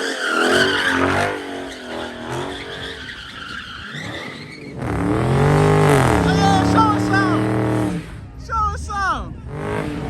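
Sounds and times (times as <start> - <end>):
tires squealing and skidding: 0.0 - 8.3
car engines revving: 0.0 - 10.0.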